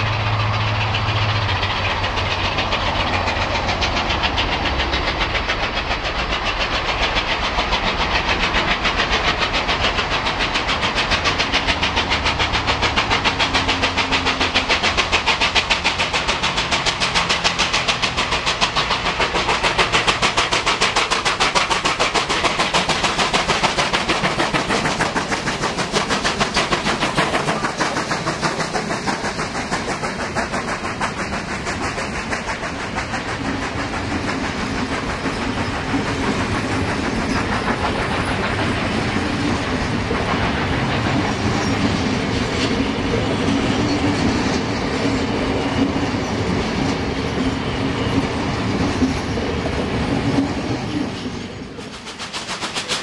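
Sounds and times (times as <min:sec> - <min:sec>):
steam locomotive exhaust beats: 0:00.0 - 0:53.0
wheels clicking over rail joints: 0:00.1 - 0:53.0.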